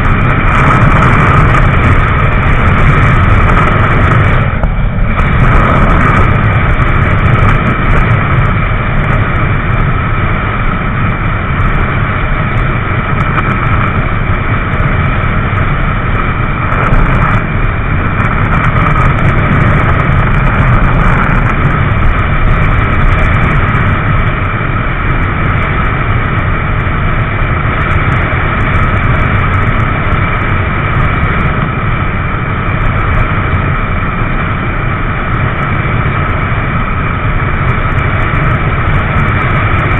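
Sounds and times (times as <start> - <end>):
motorcycle engine drone: 0.0 - 39.9
wind rush on microphone: 0.0 - 39.9.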